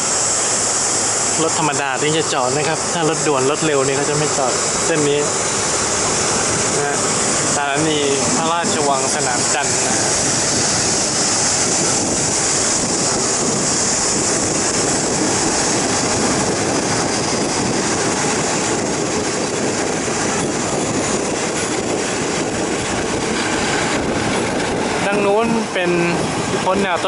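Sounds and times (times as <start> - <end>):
train hiss: 0.0 - 27.0
train wheels on rails: 0.0 - 27.0.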